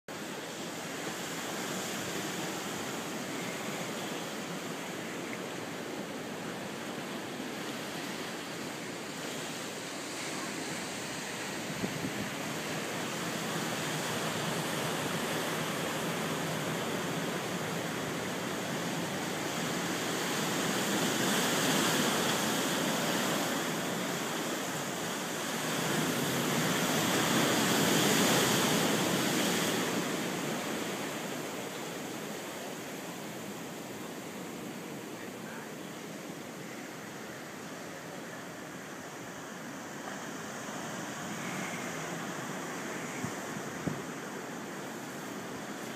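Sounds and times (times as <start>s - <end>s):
ocean surf breaking on beach: 0.1s - 45.9s.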